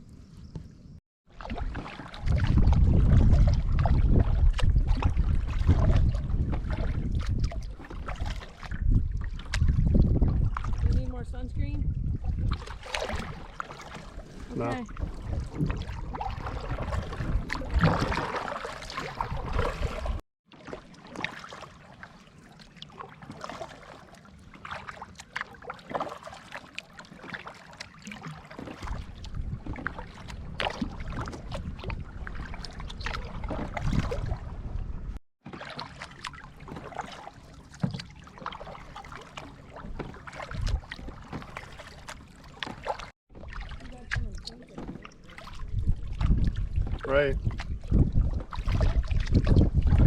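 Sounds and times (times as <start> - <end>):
paddle splashing water: 0.3 - 50.0.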